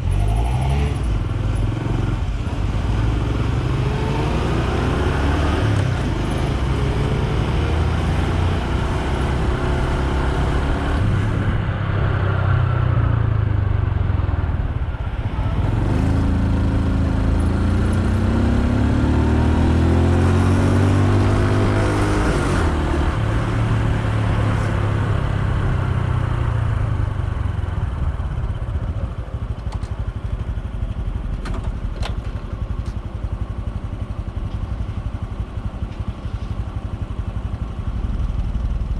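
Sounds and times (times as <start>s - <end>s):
motorcycle engine running: 0.9s - 38.9s.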